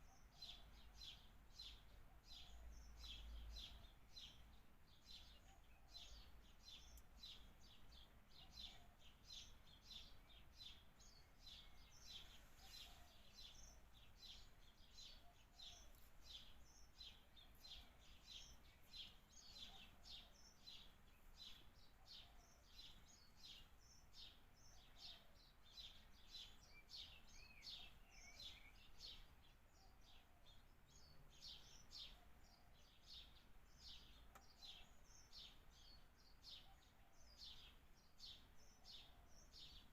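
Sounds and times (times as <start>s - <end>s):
birds chirping faintly: 0.0s - 39.9s.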